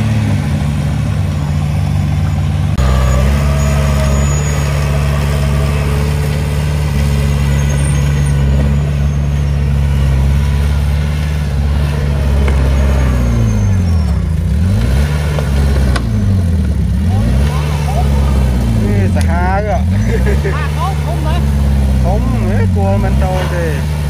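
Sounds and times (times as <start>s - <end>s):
dozer diesel engine running: 0.0s - 24.0s.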